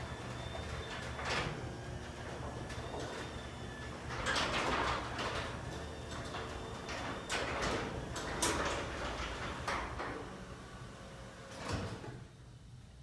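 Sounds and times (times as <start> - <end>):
door rollers clacking: 0.0 - 12.2
garage door opener motor hum: 0.0 - 12.5.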